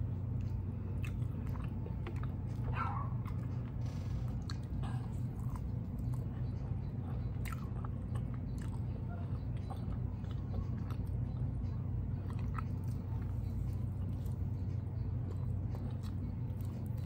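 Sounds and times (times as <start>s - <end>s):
biting and chewing: 0.0s - 17.0s
steady low hum: 0.0s - 17.0s.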